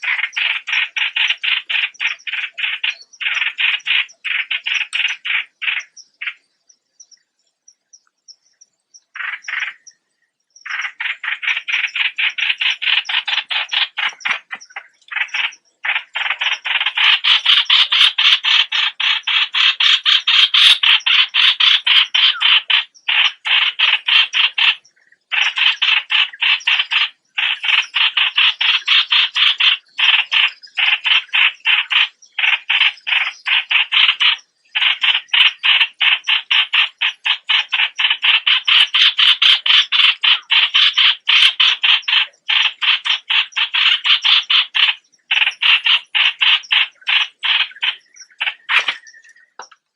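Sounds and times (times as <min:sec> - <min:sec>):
bird chattering: 0:00.0 - 0:06.4, 0:07.8 - 0:10.0, 0:10.6 - 0:49.9.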